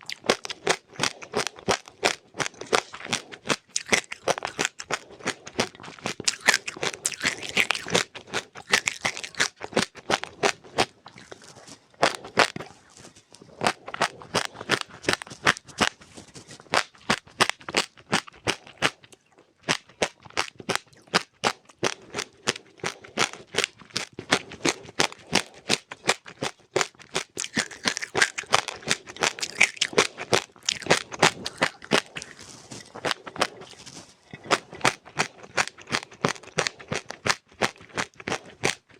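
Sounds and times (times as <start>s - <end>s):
chewing crunchy seeds: 0.0s - 38.9s.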